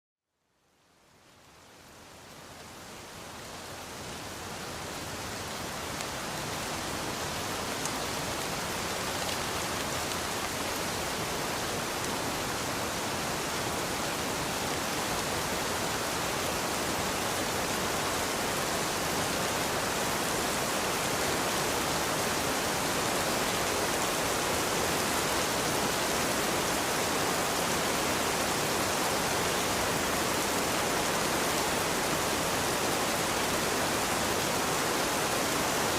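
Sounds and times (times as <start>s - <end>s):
rain falling: 0.6s - 35.9s.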